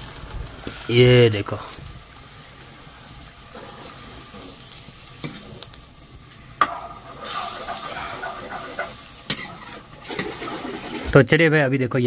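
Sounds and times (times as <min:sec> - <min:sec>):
pot bubbling hiss: 0:00.0 - 0:11.4.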